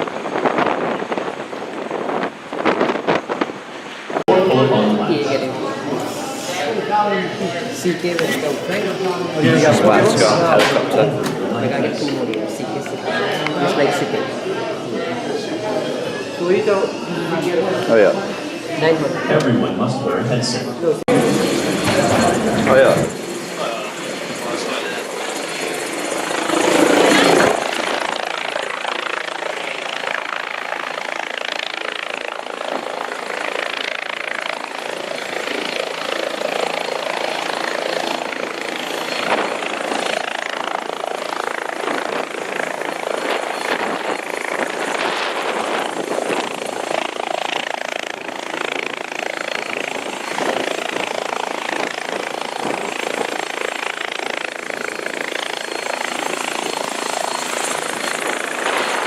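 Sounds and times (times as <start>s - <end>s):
helicopter cabin roar: 0.0s - 59.0s.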